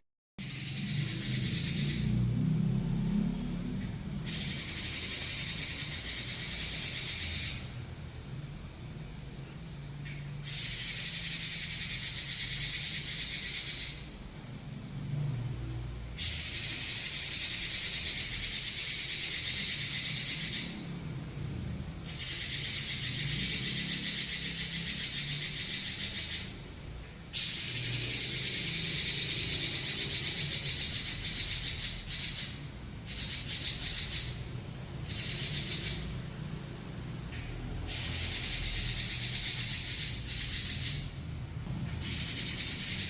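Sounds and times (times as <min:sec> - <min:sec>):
bird singing rolling trills: 0:00.4 - 0:09.2, 0:09.8 - 0:14.6, 0:15.7 - 0:21.3, 0:21.9 - 0:36.7, 0:37.5 - 0:43.0.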